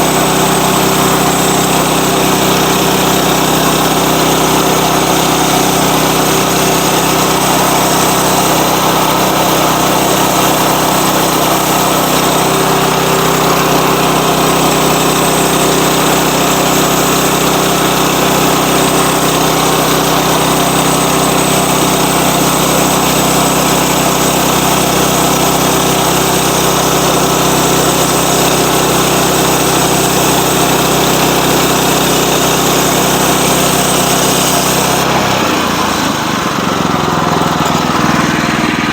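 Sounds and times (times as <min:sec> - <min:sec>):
saw cutting log: 0:00.0 - 0:38.9
sawmill engine running: 0:00.0 - 0:38.9.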